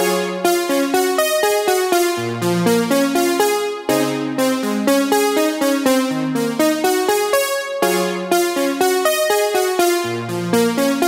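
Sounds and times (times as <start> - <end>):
electronic synthesizer music: 0.0 - 11.0.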